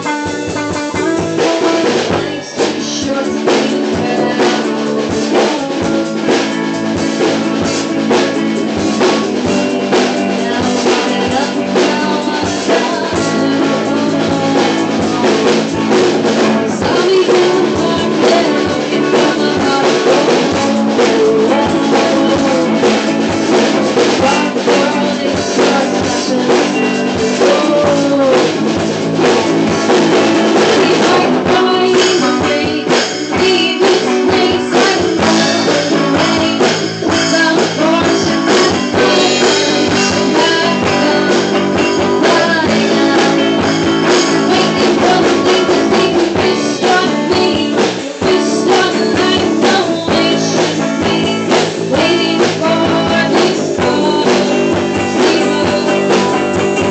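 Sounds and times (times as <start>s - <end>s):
bass guitar: 0.0s - 56.9s
drum kit beat with rimshots: 0.0s - 56.9s
electric guitar: 0.0s - 56.9s
rock band playing live: 0.0s - 56.9s.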